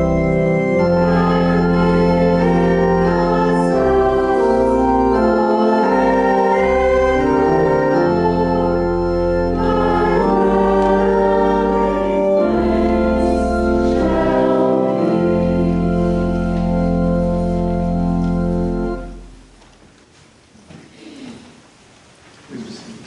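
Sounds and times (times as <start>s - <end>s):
congregation singing: 0.0s - 19.4s
organ playing a slow hymn: 0.0s - 19.6s.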